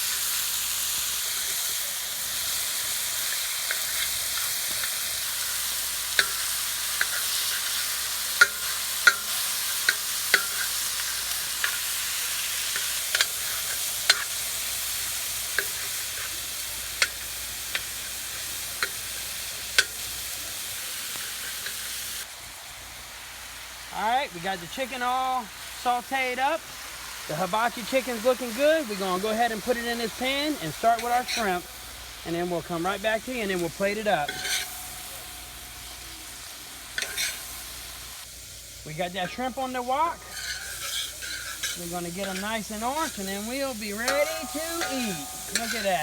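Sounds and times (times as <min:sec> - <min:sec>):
chicken sizzling in hot oil: 0:00.0 - 0:46.0.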